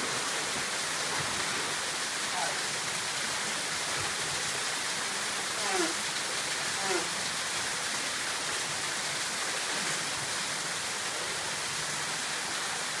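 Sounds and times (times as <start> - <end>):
waterfall rushing and splashing: 0.0 - 13.0.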